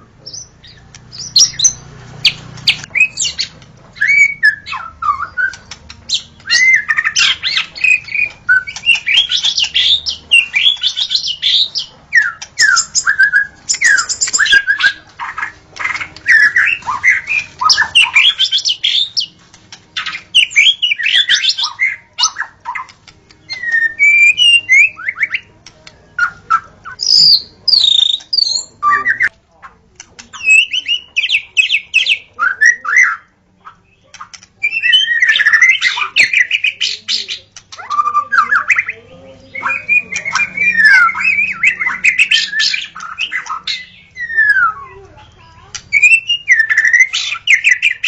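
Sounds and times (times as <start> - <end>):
bird singing whistled phrases: 0.3 - 19.3, 20.0 - 25.5, 26.2 - 29.3, 30.3 - 45.0, 45.7 - 48.0.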